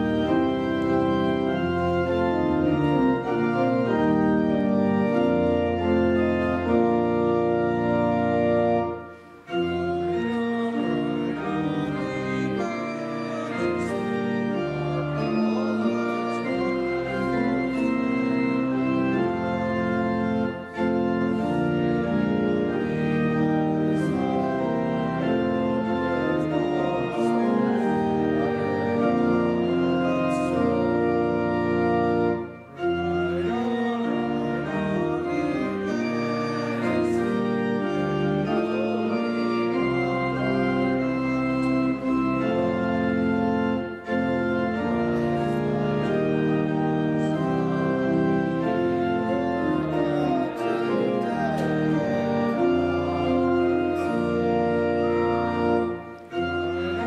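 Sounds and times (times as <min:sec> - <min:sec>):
church organ playing a hymn: 0:00.0 - 0:57.0.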